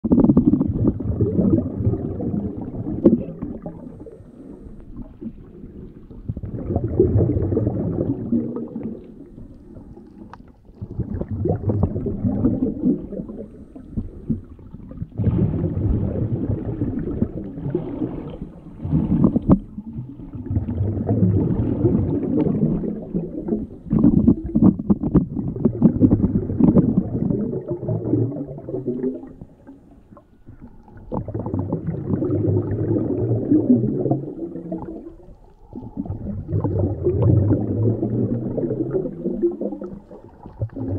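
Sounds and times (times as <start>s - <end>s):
underwater rumbling and gurgling: 0.0s - 40.9s.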